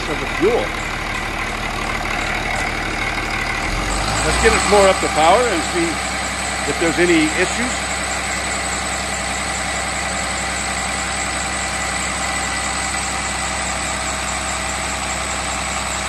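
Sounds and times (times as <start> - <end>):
diesel engine running above idle: 0.0 - 16.0.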